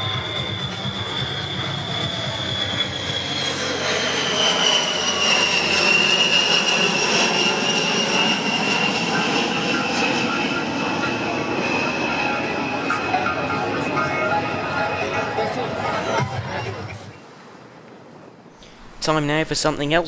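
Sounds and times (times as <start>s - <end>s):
jet engines roaring with whine: 0.0s - 19.0s.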